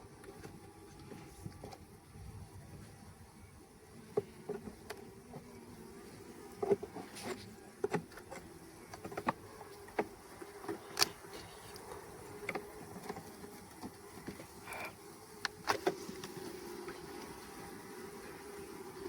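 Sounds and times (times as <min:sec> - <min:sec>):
honey bees buzzing: 0:00.0 - 0:19.0.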